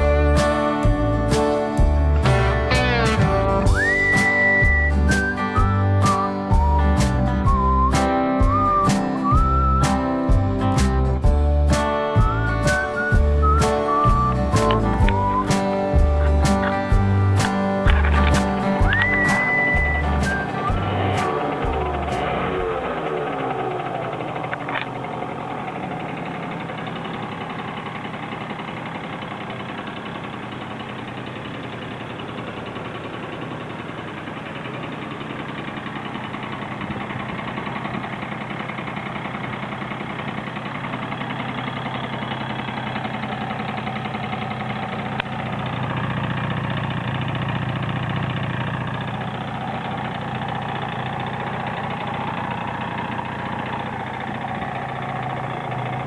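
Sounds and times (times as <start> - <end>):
two-stroke engine idling: 0.0 - 56.0.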